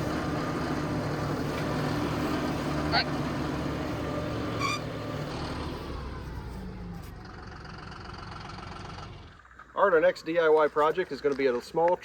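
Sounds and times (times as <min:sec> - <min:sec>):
engine running steadily: 0:00.0 - 0:09.8.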